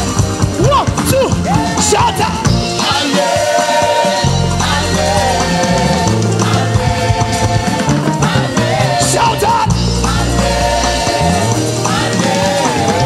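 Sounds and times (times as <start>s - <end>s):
bass line: 0.0s - 13.0s
gospel band playing: 0.0s - 13.0s
keyboards: 0.0s - 13.0s
group singing: 1.4s - 13.0s.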